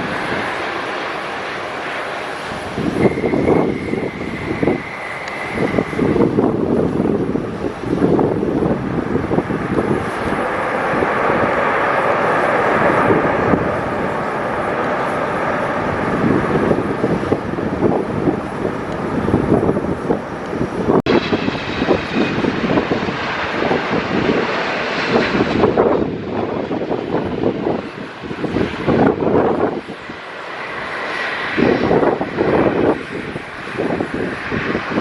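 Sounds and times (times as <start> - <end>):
high jet engine whine: 0.0 - 35.0
jet engines running: 0.0 - 35.0
wind buffeting microphone: 0.0 - 35.0.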